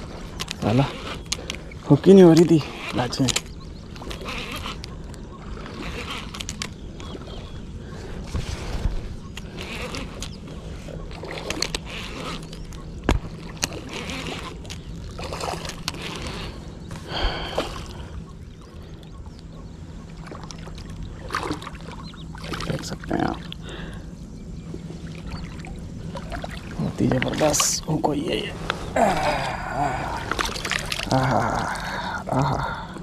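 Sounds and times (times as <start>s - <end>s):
shallow water splashing: 0.0s - 19.2s, 20.0s - 23.9s, 24.6s - 33.0s.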